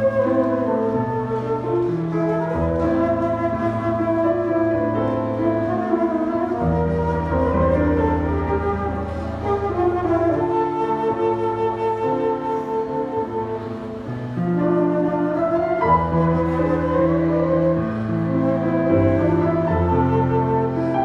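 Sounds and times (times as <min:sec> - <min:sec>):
electric keyboard accompaniment: 0:00.0 - 0:21.0
flute playing slow melody: 0:00.0 - 0:21.0.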